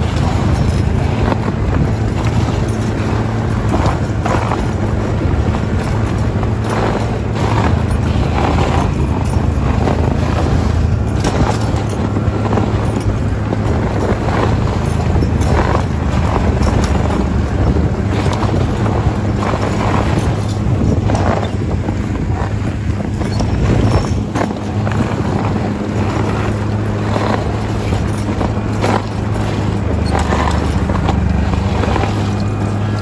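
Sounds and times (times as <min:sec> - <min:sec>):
snowmobile engine running: 0:00.0 - 0:33.0
wind noise on microphone: 0:00.0 - 0:33.0.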